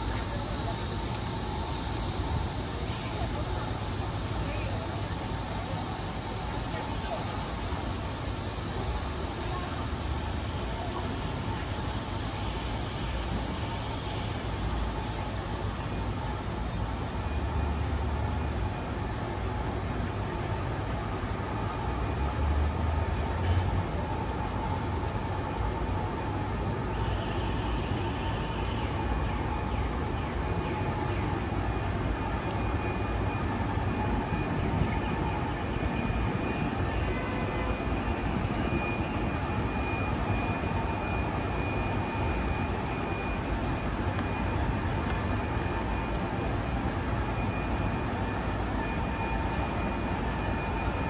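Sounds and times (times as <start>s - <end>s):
low rumble of traffic: 0.0s - 51.0s.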